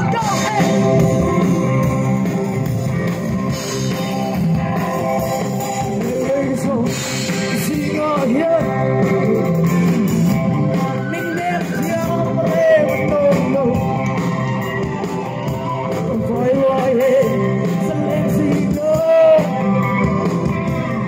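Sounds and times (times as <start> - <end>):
live band with electric guitar: 0.0 - 21.0.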